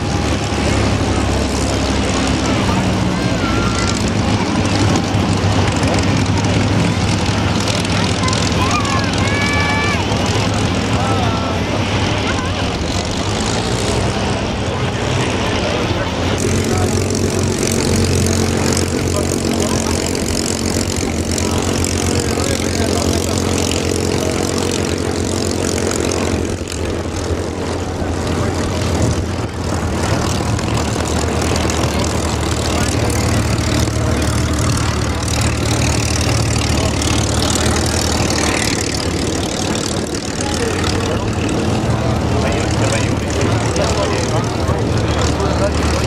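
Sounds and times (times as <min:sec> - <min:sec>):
propeller aircraft engines droning: 0:00.0 - 0:46.0.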